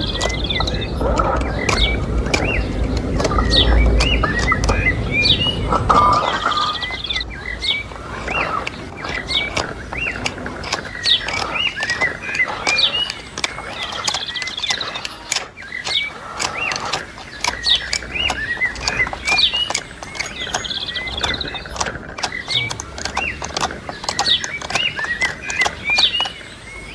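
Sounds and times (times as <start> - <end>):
sharp clicks: 0.0 - 26.9
small birds chirping: 0.0 - 26.9.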